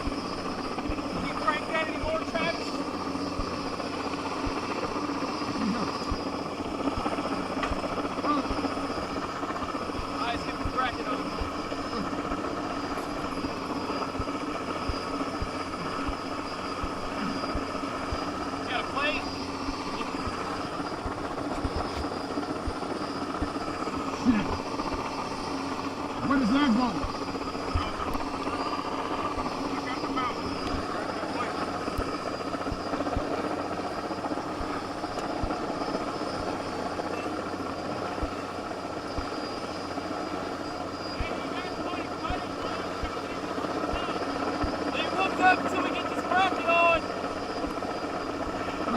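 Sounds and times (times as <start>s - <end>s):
helicopter running overhead: 0.0s - 48.9s.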